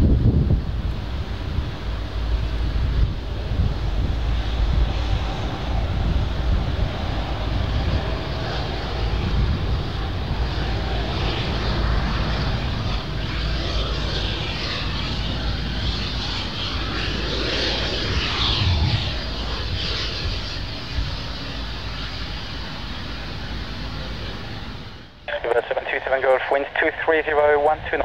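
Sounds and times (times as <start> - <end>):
jet engines at taxi power: 0.0 - 28.0
low rumble: 0.0 - 28.0.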